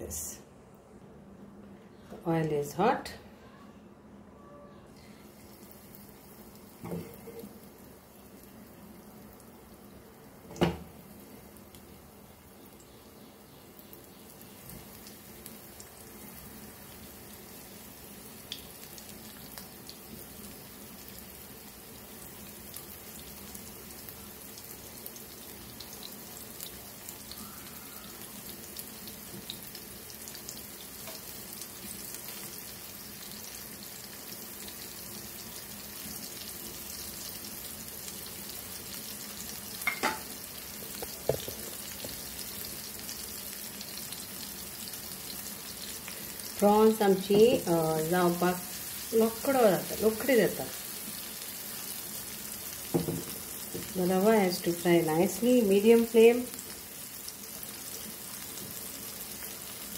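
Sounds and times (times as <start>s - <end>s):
prawns sizzling in hot oil: 5.2s - 59.9s.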